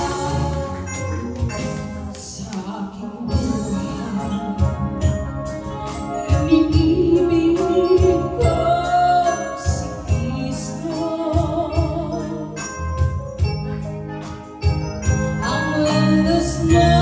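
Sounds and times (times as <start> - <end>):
woman singing into microphone: 0.0 - 12.8, 15.4 - 17.0
live band playing: 0.0 - 17.0.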